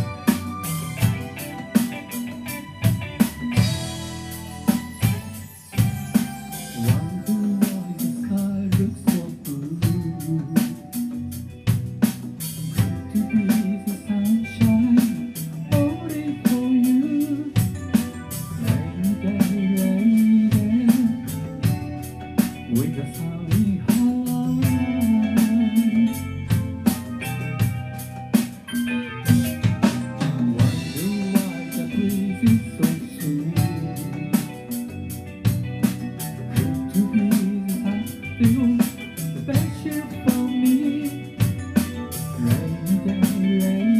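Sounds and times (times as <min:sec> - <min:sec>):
drum kit beat on snare and cymbals: 0:00.0 - 0:43.9
live rock band playing: 0:00.0 - 0:43.9.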